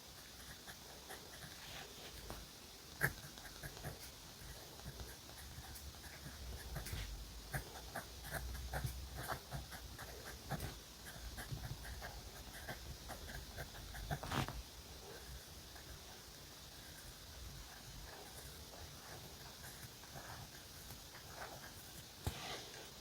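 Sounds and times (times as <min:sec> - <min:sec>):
pen scratching on paper: 0:00.1 - 0:22.7.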